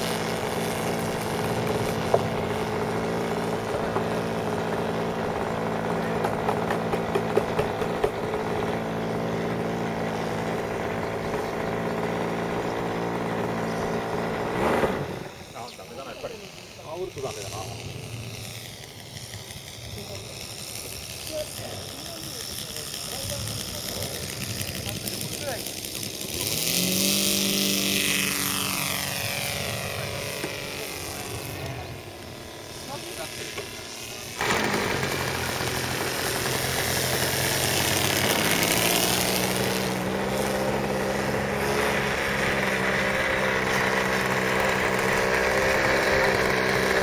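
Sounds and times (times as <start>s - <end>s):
model airplane engine running: 0.0s - 47.0s.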